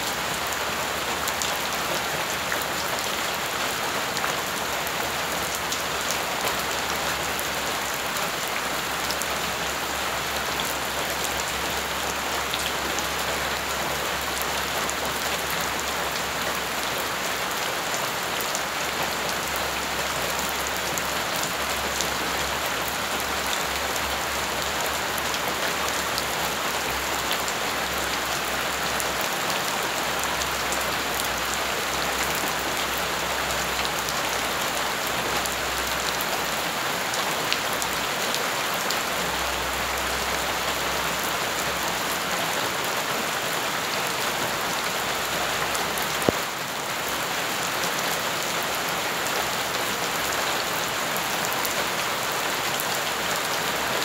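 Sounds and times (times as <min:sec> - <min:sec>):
rain on earth and gravel: 0:00.0 - 0:54.0.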